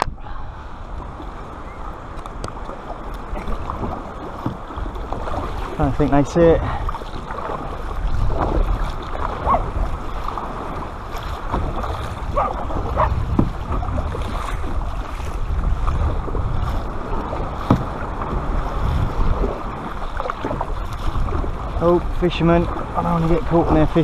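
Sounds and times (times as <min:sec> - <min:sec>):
paddle splashing in water: 0:00.0 - 0:24.0
water gurgling along hull: 0:00.0 - 0:24.0
wind rumble on microphone: 0:00.0 - 0:24.0.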